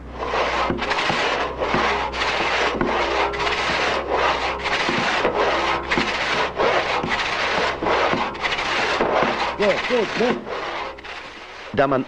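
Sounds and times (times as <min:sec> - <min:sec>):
rip saw cutting through log: 0:00.1 - 0:12.0.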